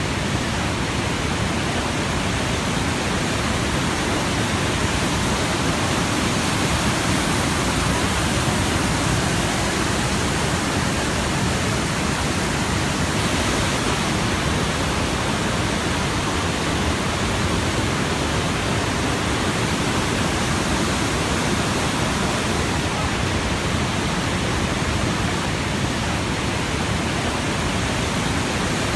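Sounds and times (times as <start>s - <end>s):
steady rushing noise: 0.0s - 28.9s.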